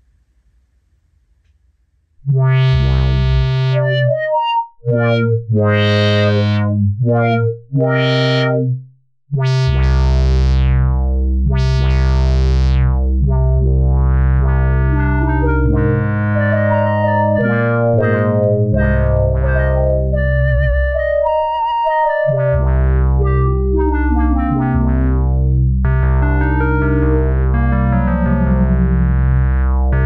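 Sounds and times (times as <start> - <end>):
deep synth bass: 2.2 - 30.0
synthesizer chords: 2.2 - 30.0.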